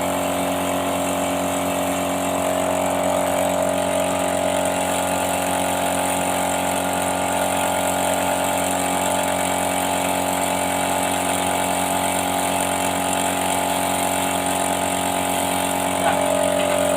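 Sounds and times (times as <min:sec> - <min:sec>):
motor humming: 0:00.0 - 0:16.9.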